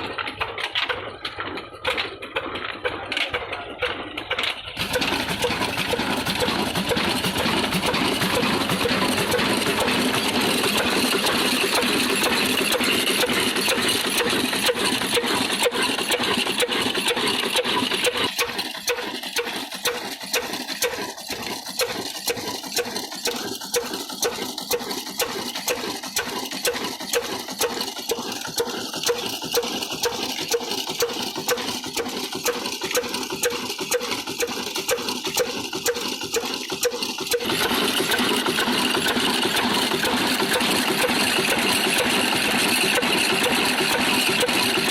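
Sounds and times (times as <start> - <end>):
diesel engine running slowly: 0.0 - 44.9.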